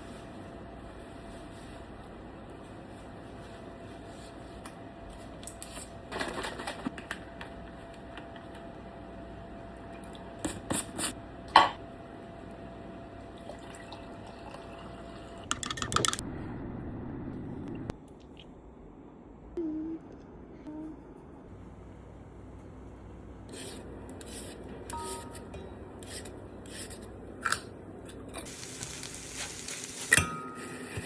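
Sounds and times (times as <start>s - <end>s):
appliance hum: 0.0s - 31.0s.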